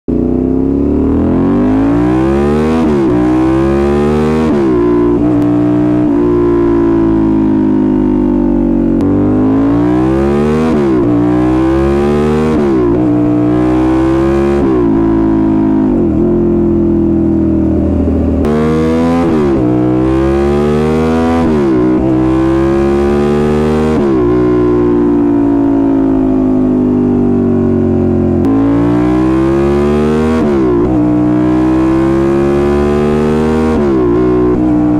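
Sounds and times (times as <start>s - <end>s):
motorcycle engine shifting gears: 0.1s - 34.9s.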